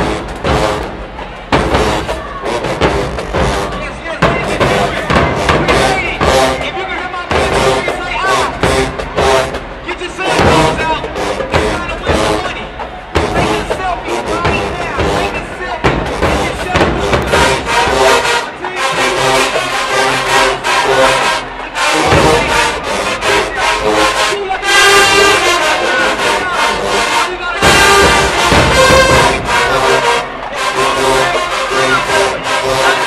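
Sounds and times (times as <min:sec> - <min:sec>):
drumline beat: 0:00.0 - 0:33.0
marching band brass playing loudly: 0:00.0 - 0:33.0.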